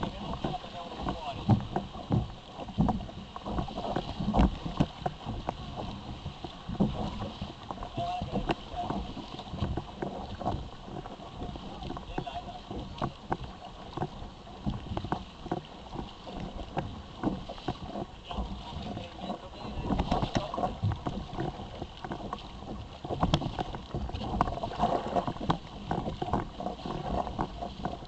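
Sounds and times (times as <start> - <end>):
water slapping against kayak hull: 0.0 - 28.0.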